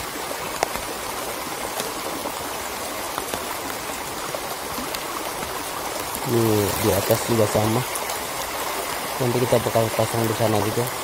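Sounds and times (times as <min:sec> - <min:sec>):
stream rushing over shallows: 0:00.0 - 0:11.0.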